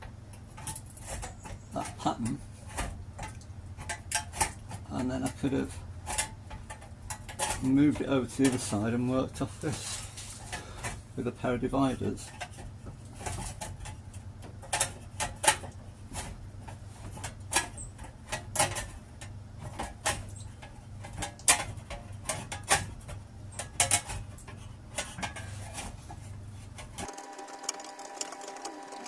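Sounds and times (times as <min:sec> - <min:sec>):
hand tools tapping sheet steel: 0:00.0 - 0:29.0
low workshop hum: 0:00.0 - 0:29.0.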